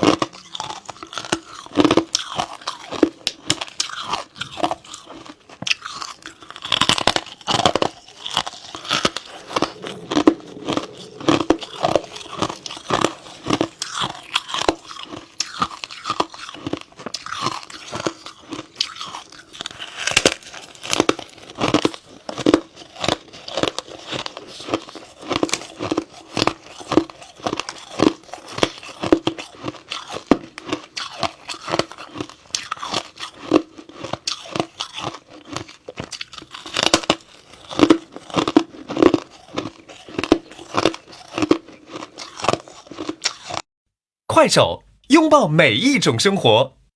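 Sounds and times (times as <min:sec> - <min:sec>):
frost crunching as bitten: 0:00.0 - 0:43.6.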